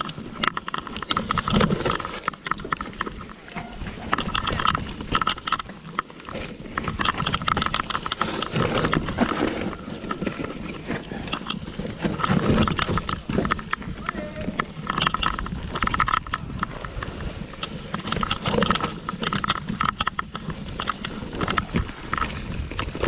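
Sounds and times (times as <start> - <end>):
bike clattering over bumps: 0.0 - 23.0
tyres rumbling over dirt: 0.0 - 23.0.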